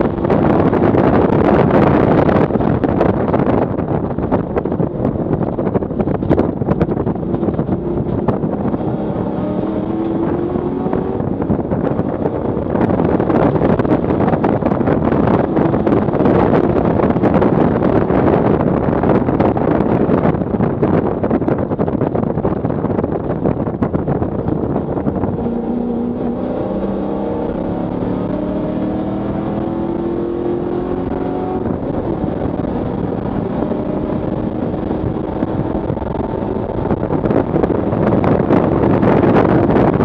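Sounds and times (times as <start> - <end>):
car engine and exhaust: 0.0 - 40.0.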